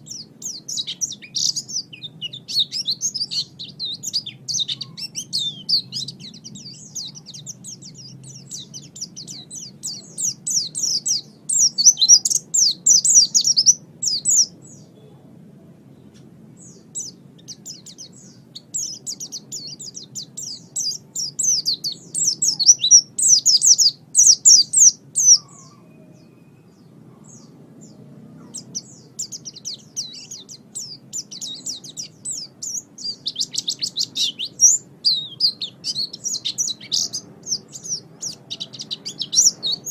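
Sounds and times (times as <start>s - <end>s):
bird twittering song: 0.0s - 15.2s, 15.9s - 39.9s
faint low hum: 0.0s - 39.9s.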